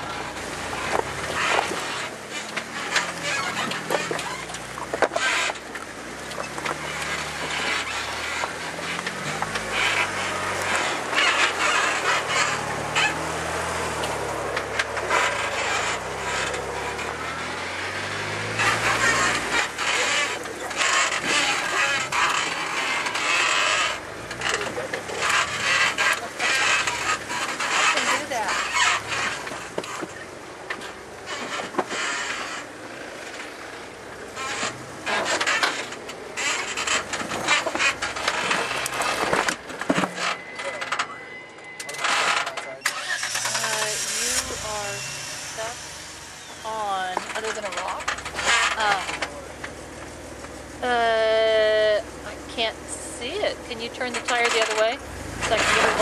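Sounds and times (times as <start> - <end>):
tyres grinding over rock: 0.0 - 41.2, 41.9 - 56.0
branches scraping against vehicle: 0.0 - 56.0
car engine under load: 0.0 - 56.0.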